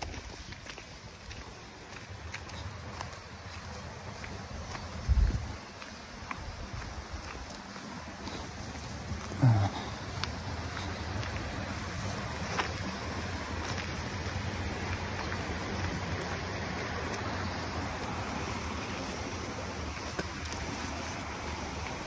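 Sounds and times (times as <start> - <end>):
footsteps on dirt trail: 0.0 - 22.0
mountain stream rushing: 0.0 - 22.0.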